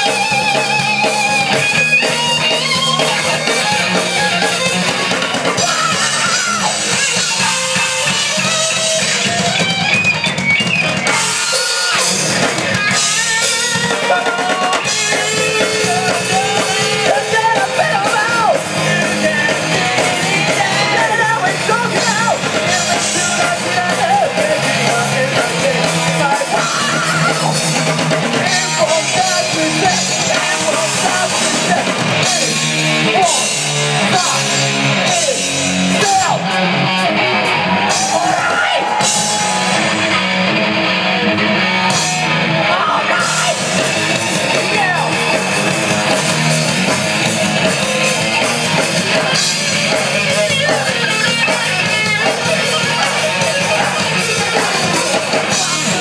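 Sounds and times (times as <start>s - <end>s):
lead vocalist singing: 0.0s - 9.9s, 11.0s - 40.1s, 42.4s - 56.0s
drum kit: 0.0s - 56.0s
electric guitars: 0.0s - 56.0s.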